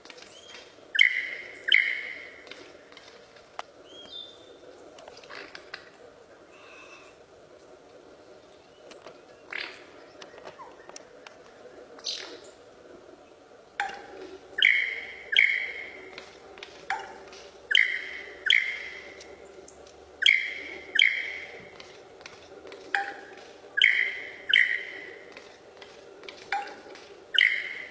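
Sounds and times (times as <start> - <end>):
lyrebird calling: 0.1 - 27.9.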